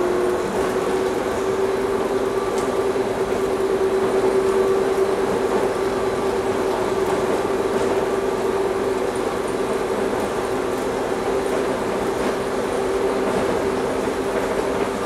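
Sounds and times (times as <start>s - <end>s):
steady train hum: 0.0s - 15.0s.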